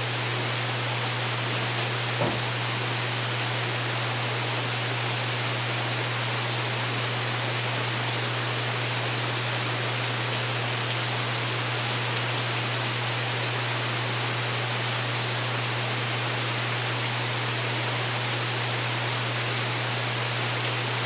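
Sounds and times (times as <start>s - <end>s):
rain on a roof: 0.0s - 21.0s.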